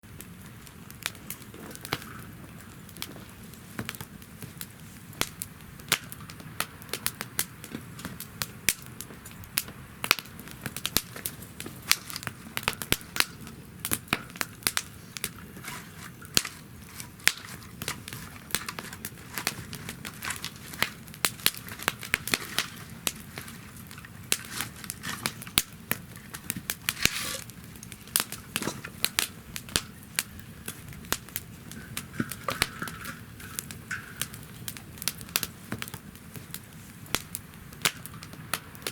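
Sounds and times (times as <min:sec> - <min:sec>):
low flame noise: 0:00.0 - 0:38.9
wood fire crackling and popping: 0:00.0 - 0:38.9.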